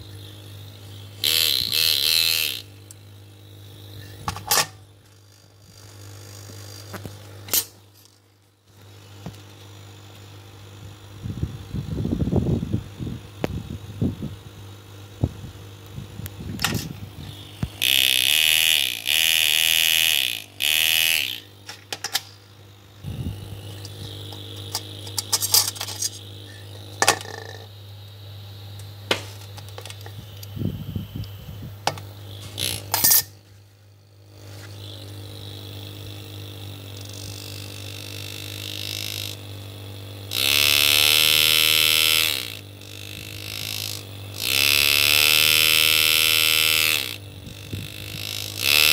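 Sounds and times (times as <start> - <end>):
pneumatic engraver buzzing: 0.0 - 48.9
steady low hum: 0.0 - 48.9.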